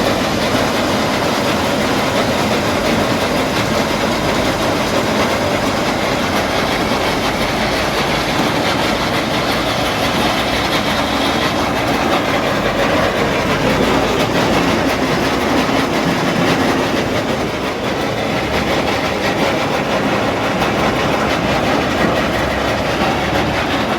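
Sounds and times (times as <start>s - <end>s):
rice thresher mechanical rattle: 0.0s - 23.9s.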